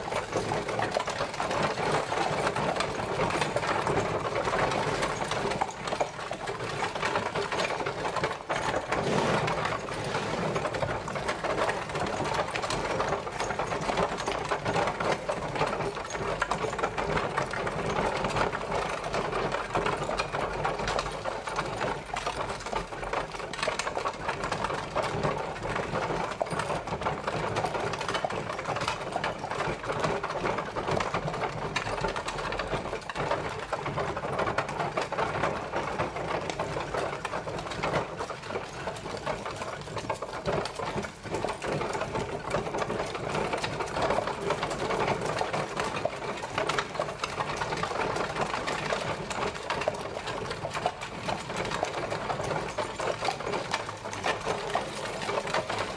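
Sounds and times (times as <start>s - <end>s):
horse-drawn carriage rattling: 0.0s - 55.9s.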